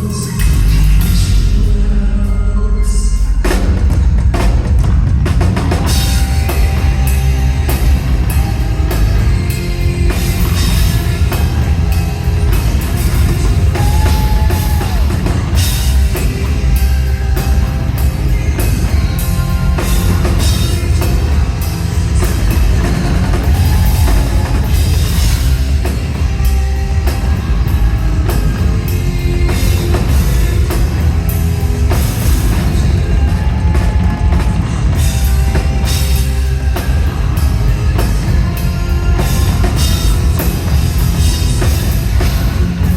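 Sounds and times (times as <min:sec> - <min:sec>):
live hard rock band: 0:00.0 - 0:42.9.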